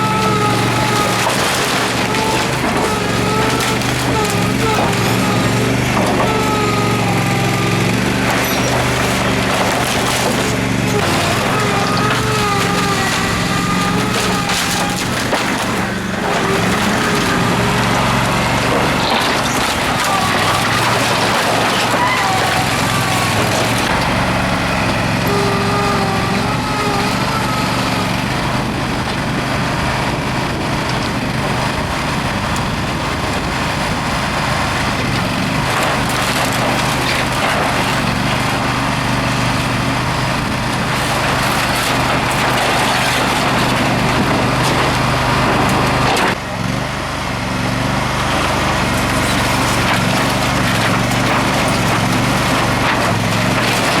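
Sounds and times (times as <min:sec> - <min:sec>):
wood cracking and splintering: 0:00.0 - 0:46.5, 0:47.7 - 0:54.0
backhoe engine running: 0:00.0 - 0:54.0.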